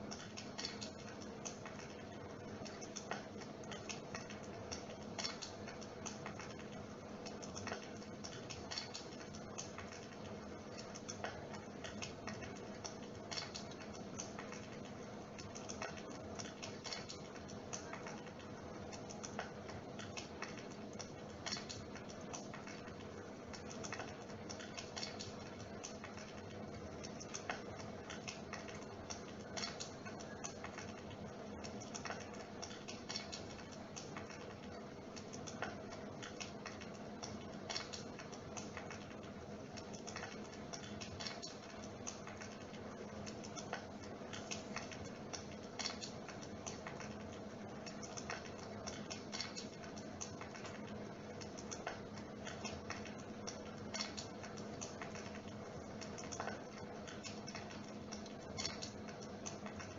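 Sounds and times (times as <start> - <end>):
crackling clicks: 0.0 - 59.9
electric fireplace hum: 0.0 - 59.9.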